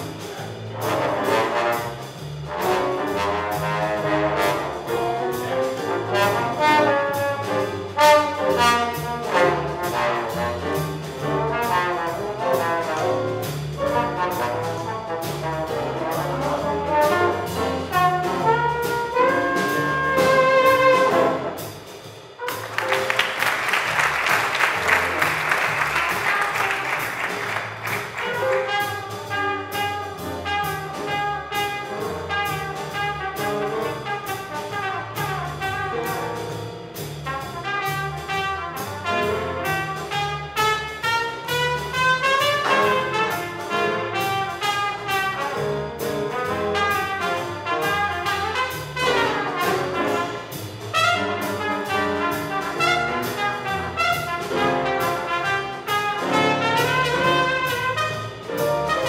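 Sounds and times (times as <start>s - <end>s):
drums: 0.0s - 59.0s
horns: 0.0s - 59.0s
piano: 0.0s - 59.0s
walking upright bass: 0.0s - 59.0s.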